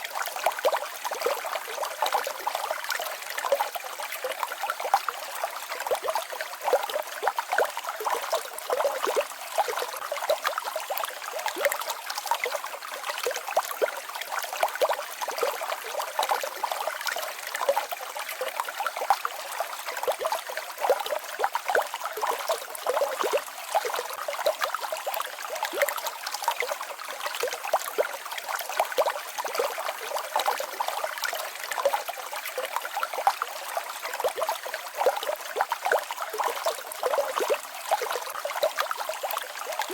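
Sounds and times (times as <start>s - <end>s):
waterfall and stream babbling: 0.0s - 39.9s.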